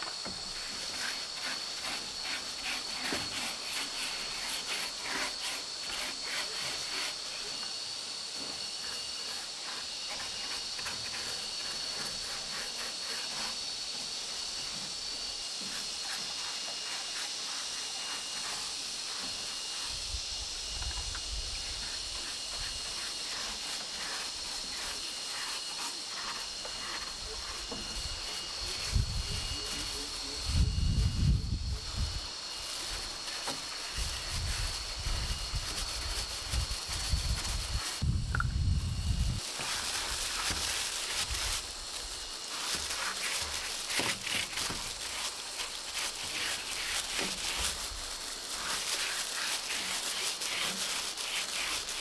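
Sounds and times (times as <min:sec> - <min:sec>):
insects trilling high: 0:00.0 - 0:52.0
lower insect trill: 0:00.0 - 0:52.0.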